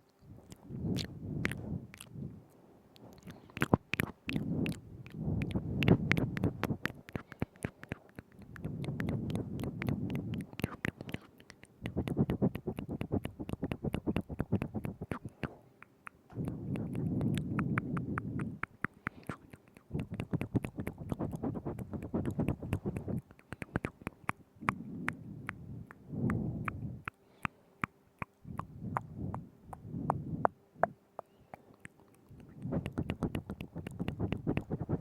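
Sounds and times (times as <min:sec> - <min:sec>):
muffled mouth noise: 0:00.0 - 0:35.0
tongue and lip clicks: 0:00.0 - 0:35.0.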